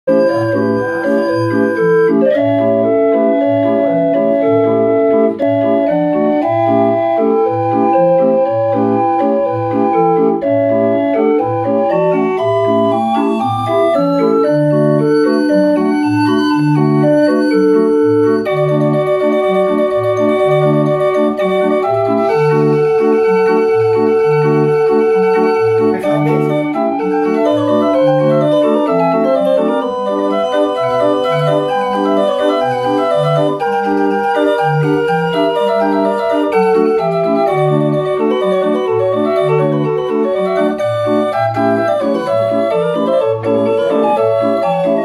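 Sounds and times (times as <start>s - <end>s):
street organ playing a tune: 0.1s - 45.0s.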